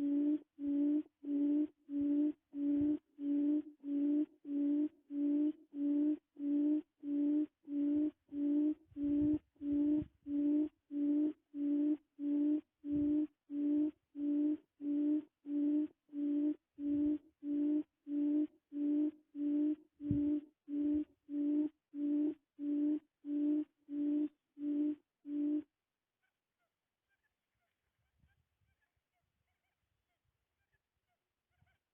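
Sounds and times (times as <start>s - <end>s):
low tone beeping: 0.0s - 25.6s.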